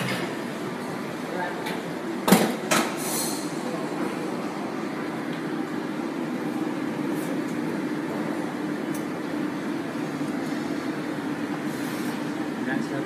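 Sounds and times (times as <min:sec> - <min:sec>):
restaurant room hum and hiss: 0:00.0 - 0:13.0.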